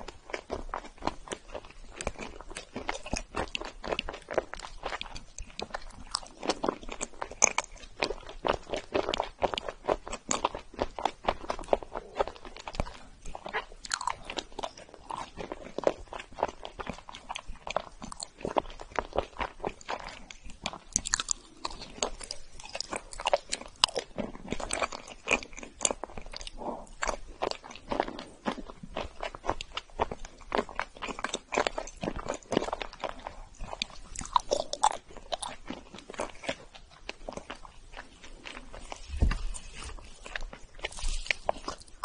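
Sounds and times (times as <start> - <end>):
chewing crunchy cookie: 0.0 - 42.0.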